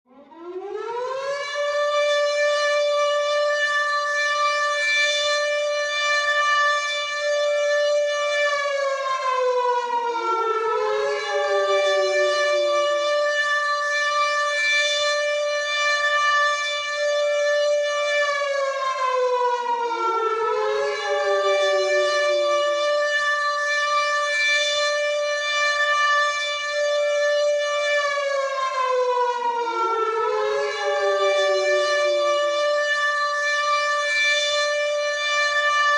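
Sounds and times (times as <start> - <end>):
air raid siren wailing: 0.1 - 35.9.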